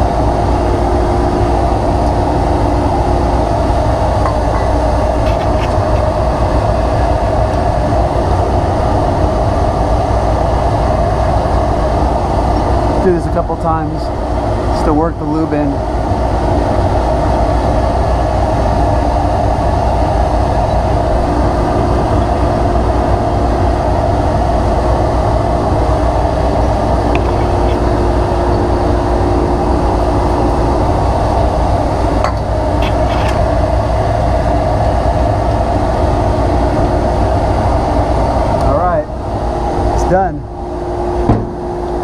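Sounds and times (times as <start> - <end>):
shop machine droning: 0.0 - 42.0.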